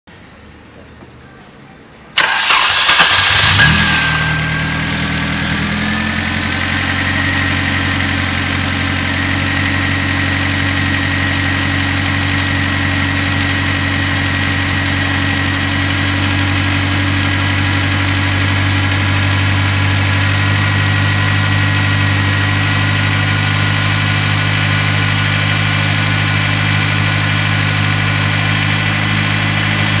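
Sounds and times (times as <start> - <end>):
diesel engine starting and idling: 2.2 - 30.0.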